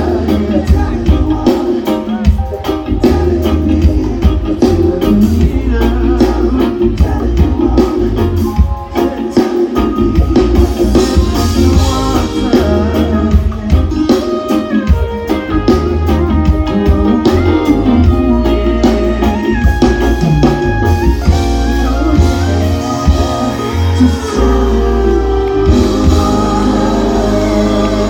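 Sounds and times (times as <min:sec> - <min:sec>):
drum kit: 0:00.0 - 0:28.0
electric guitar: 0:00.0 - 0:28.0
heavy bass line: 0:00.0 - 0:28.0
live reggae pop band: 0:00.0 - 0:28.0.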